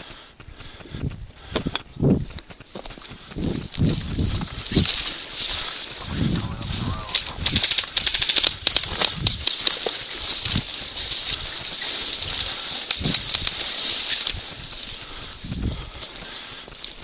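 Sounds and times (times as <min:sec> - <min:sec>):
footsteps through dry brush: 0:00.0 - 0:17.0.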